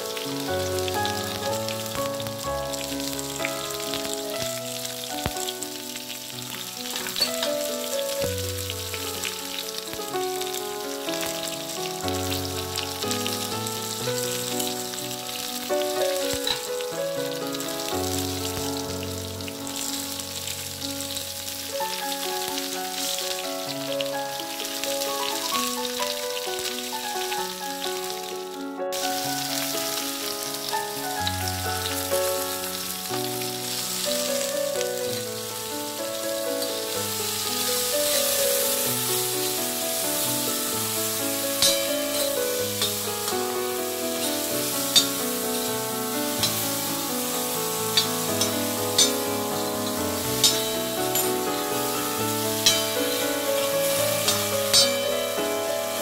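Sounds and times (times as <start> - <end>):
food sizzling on a pan: 0.0 - 56.0.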